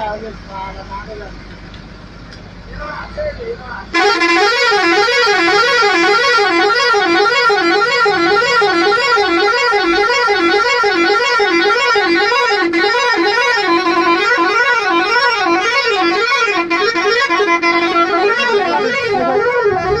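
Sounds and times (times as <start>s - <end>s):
warbling bus air horn: 3.9s - 20.0s.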